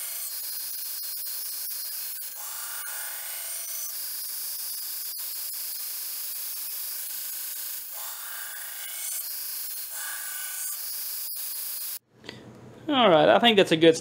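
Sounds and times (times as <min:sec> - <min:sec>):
blade grinding on belt: 0:00.0 - 0:12.0.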